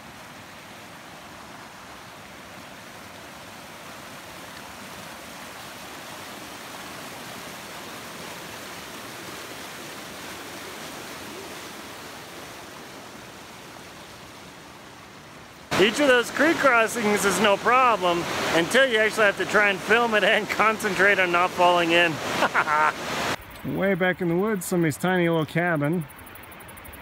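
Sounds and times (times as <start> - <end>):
creek water rushing: 0.0 - 23.4.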